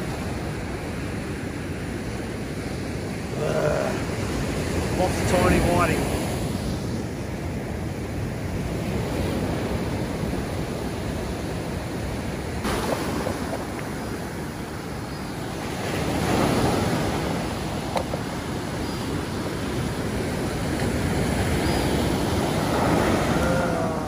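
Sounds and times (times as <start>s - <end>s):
ocean surf breaking on beach: 0.0s - 24.0s.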